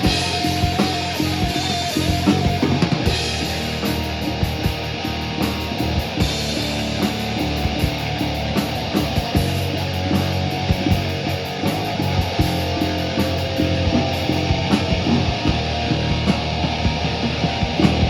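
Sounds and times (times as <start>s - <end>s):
distorted electric guitars: 0.0s - 18.0s
drums: 0.0s - 18.0s
live rock band playing: 0.0s - 18.0s.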